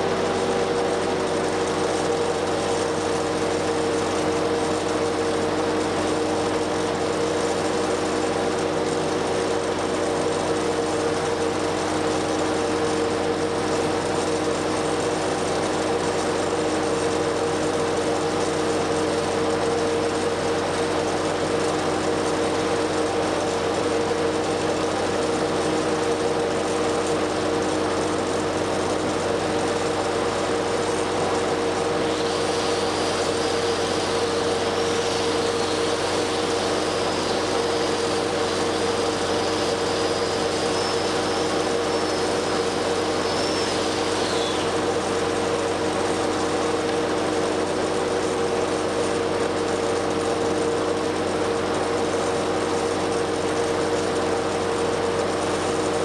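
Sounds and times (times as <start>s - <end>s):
gasoline engine running steadily: 0.0s - 56.0s
welding arc crackling and hissing: 1.5s - 48.8s.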